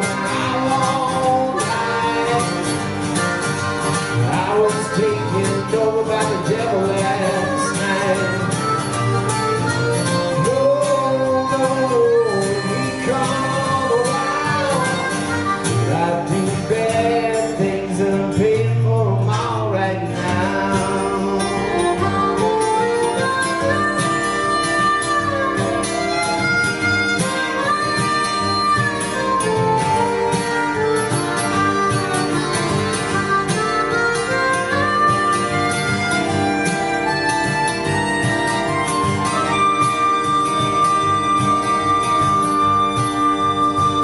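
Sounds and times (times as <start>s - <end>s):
acoustic guitar: 0.0s - 44.0s
harmonica with bending notes: 0.0s - 44.0s.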